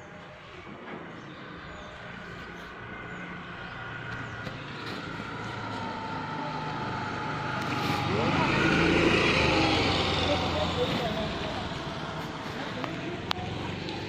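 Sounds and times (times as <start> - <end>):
vehicle engine hum approaching: 0.0 - 14.0.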